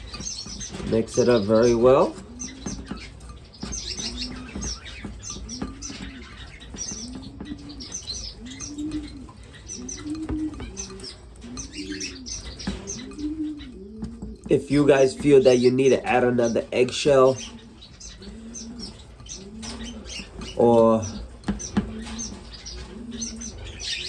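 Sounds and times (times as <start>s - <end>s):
dove cooing: 0.0s - 24.0s
finches chirping: 0.0s - 24.0s.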